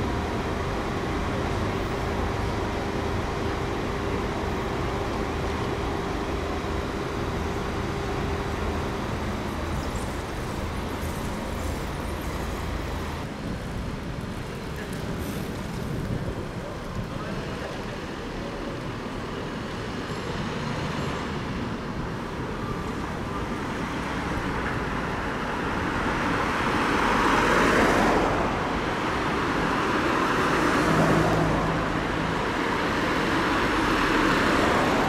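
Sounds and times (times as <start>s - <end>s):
rumble of cars: 0.0s - 35.0s
tram crossing: 0.0s - 35.0s.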